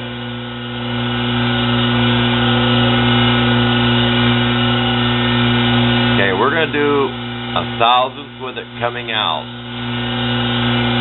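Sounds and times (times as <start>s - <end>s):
lathe motor humming: 0.0s - 11.0s.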